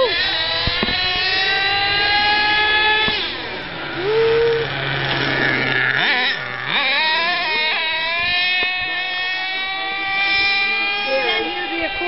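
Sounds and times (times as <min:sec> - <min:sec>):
rc car engine whining: 0:00.0 - 0:12.0.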